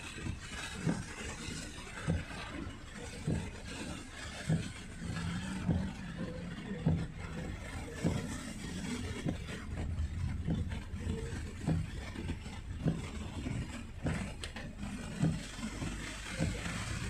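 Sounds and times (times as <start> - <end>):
heavy rain on car: 0.0 - 17.0
low engine hum: 0.0 - 17.0
tyres on wet road: 0.0 - 17.0
windshield wipers thumping: 0.0 - 17.0.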